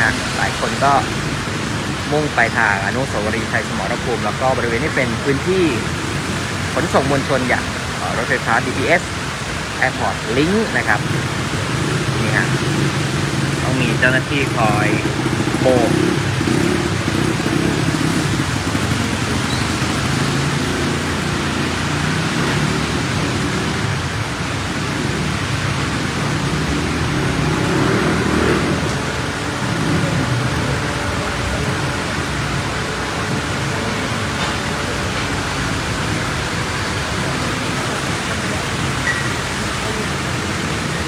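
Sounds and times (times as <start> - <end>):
cars driving through floodwater: 0.0 - 41.0
heavy rain falling: 0.0 - 41.0
low rumble of engines: 0.0 - 41.0.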